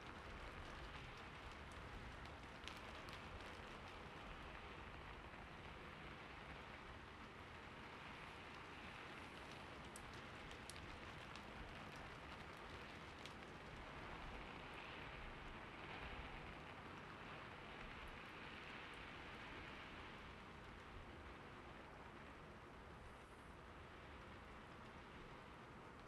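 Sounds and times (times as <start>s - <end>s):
soft steady rain: 0.0s - 26.0s.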